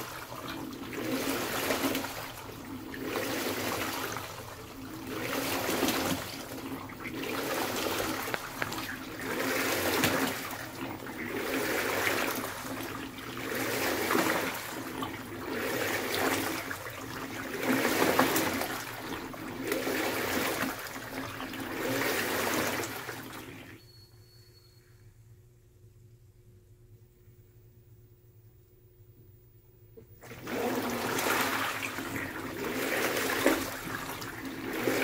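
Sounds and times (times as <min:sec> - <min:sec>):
washing machine sloshing: 0:00.0 - 0:23.9, 0:30.0 - 0:35.0.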